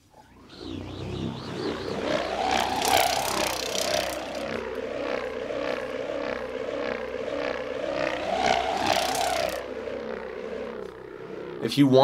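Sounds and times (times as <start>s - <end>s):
whirled rubber band humming: 0.0s - 12.0s.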